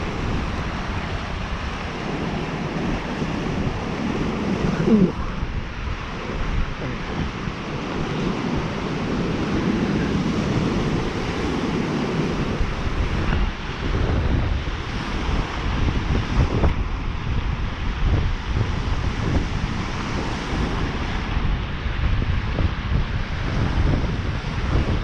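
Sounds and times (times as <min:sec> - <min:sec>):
wind gusts buffeting microphone: 0:00.0 - 0:25.0.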